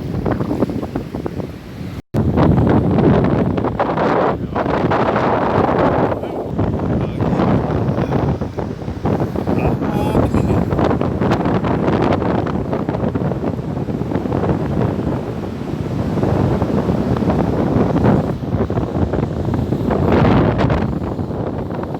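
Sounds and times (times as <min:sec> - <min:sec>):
surf rushing on shore: 0:00.0 - 0:21.9
wind buffeting microphone: 0:00.0 - 0:21.9.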